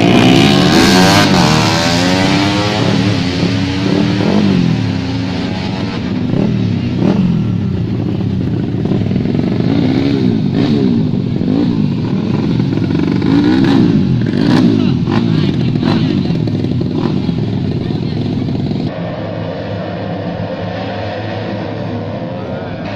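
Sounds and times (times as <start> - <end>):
racing motorcycle engines revving: 0.0 - 22.9.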